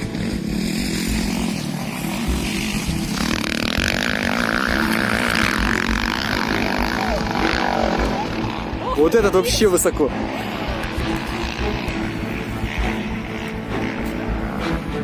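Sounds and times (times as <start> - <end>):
small engine whining: 0.0 - 15.0.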